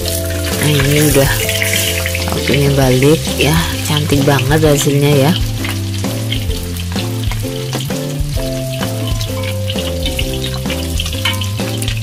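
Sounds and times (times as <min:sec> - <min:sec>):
background music: 0:00.0 - 0:12.0
chicken frying in oil: 0:00.0 - 0:12.0.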